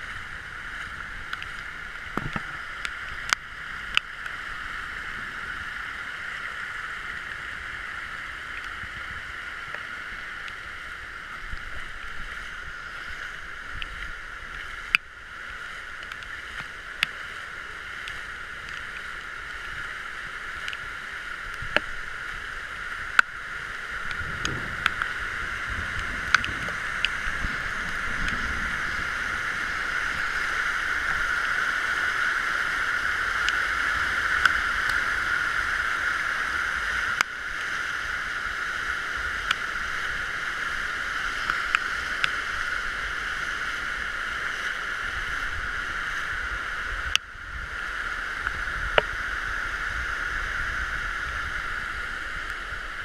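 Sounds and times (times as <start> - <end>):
floodwater rushing: 0.0 - 53.0
raindrops hitting camera: 0.0 - 53.0.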